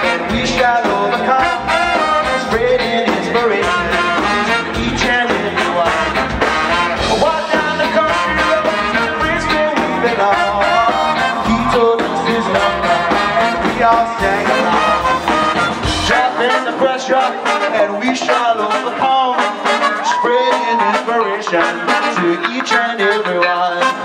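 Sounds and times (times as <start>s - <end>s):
live ska band playing: 0.0s - 24.0s.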